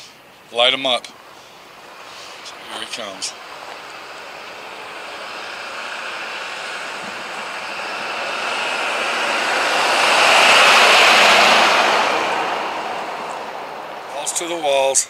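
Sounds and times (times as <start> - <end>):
truck engine at full throttle: 1.2 - 15.0.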